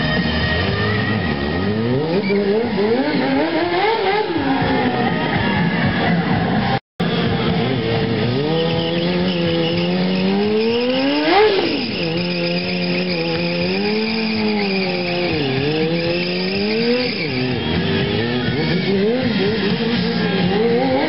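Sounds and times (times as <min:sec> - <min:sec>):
tyre squealing on asphalt: 0:00.0 - 0:06.1, 0:07.0 - 0:21.0
motorcycle engine revving: 0:00.0 - 0:21.0.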